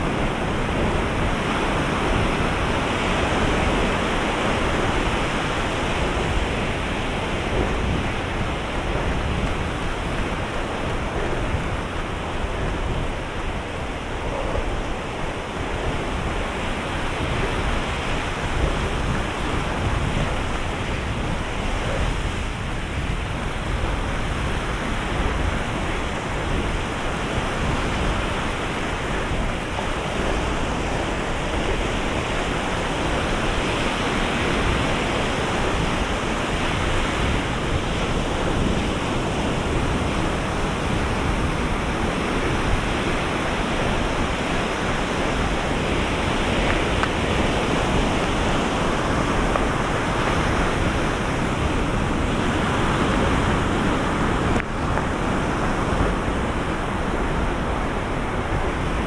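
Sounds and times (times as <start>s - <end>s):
ocean waves breaking: 0.0s - 59.0s
wind on microphone: 0.0s - 59.0s.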